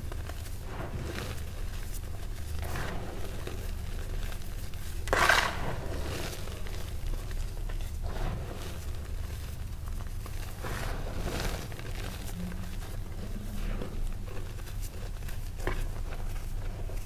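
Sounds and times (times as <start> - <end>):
hands rustling powdered chalk: 0.0 - 17.0
steady low hum: 0.0 - 17.0.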